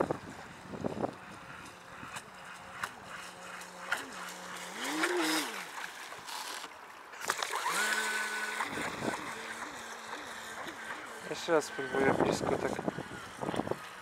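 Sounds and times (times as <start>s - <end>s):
boat motor whining: 0.0s - 14.0s
wind: 0.0s - 14.0s
lapping water: 0.4s - 14.0s.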